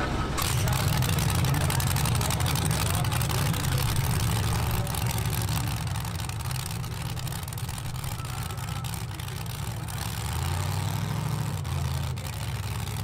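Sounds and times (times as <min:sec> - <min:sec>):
vee eight engine idling choppily: 0:00.0 - 0:13.0.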